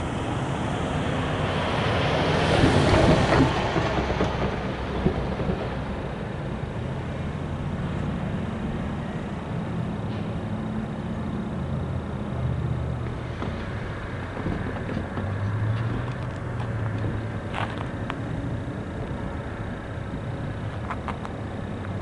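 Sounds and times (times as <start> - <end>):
locomotive engine rumbling: 0.0 - 22.0.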